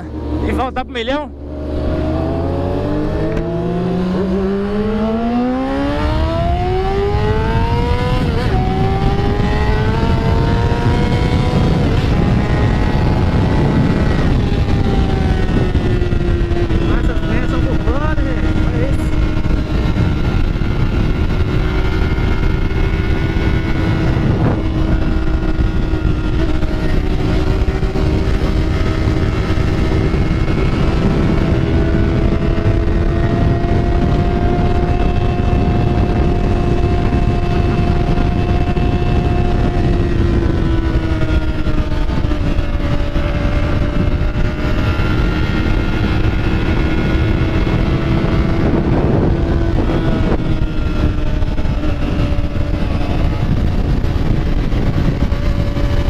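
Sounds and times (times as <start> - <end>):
motorcycle engine running: 0.0 - 56.0
wind rumbling on microphone: 0.0 - 56.0.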